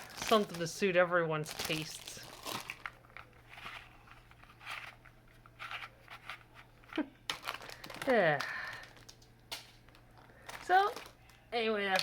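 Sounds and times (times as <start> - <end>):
plastic packaging crinkles and clicks: 0.0 - 0.8, 1.4 - 12.0.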